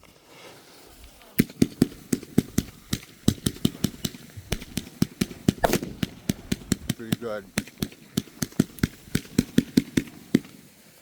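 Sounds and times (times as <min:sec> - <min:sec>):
firecrackers going off: 0:00.7 - 0:11.0.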